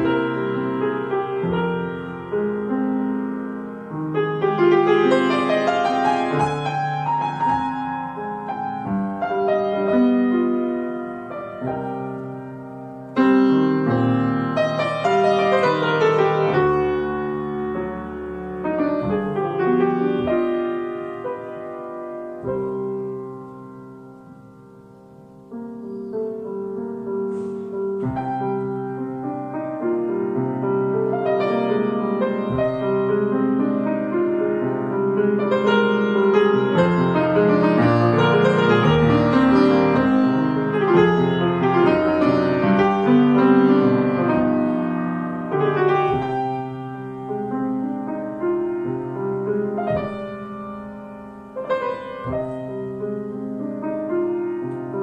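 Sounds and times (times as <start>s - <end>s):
grand piano chords: 0.0s - 55.0s.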